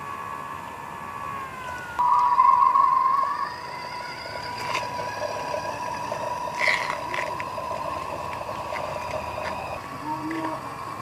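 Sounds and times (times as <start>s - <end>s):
electric motor whining: 0.0s - 10.7s.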